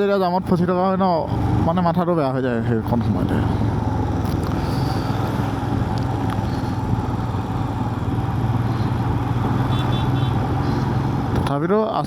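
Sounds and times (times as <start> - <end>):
road and wind noise: 0.0 - 12.0
motorcycle engine running: 0.2 - 11.6.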